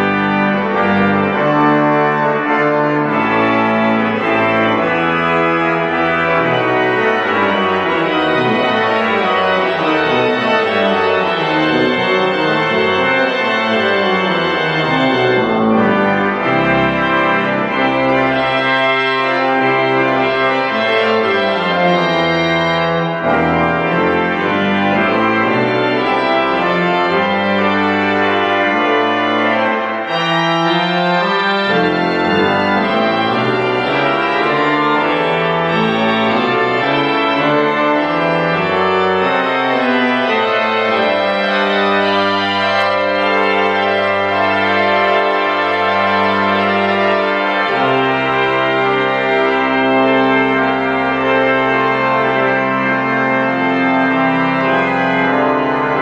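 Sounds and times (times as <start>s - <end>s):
pipe organ music: 0.0s - 56.0s.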